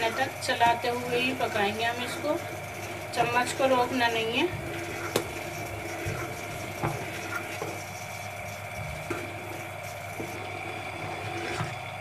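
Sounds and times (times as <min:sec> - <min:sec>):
metal spatula scraping pot: 0:00.0 - 0:11.8
steady mechanical hum: 0:00.0 - 0:12.0.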